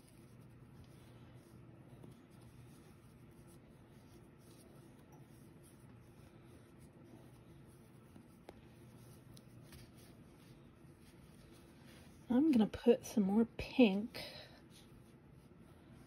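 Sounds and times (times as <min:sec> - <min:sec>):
low steady hum: 0:00.0 - 0:16.0
yarn rustling: 0:00.0 - 0:16.0.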